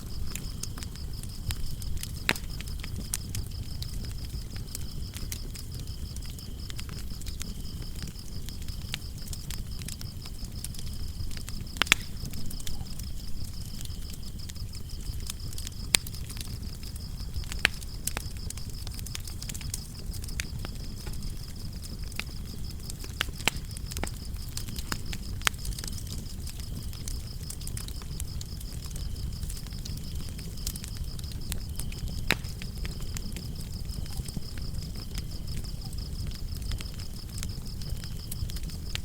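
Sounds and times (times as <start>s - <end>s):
crickets trilling: 0.0s - 39.0s
wood fire crackling and popping: 0.0s - 39.0s.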